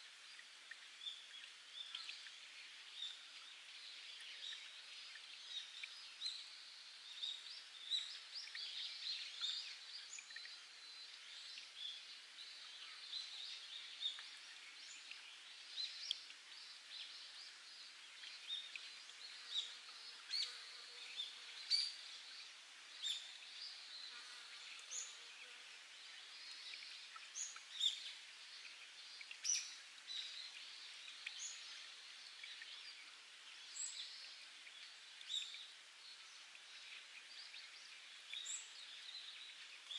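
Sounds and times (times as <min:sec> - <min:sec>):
water trickling over rock: 0:00.0 - 0:39.9.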